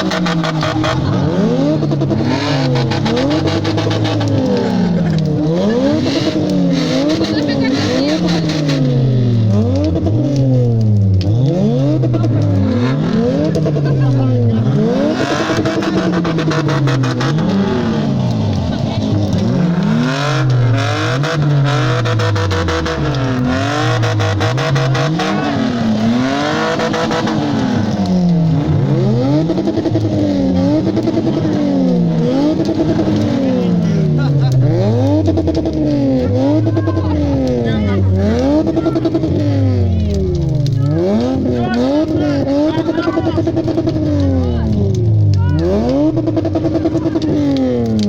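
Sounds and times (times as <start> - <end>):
engines revving: 0.0 - 48.0.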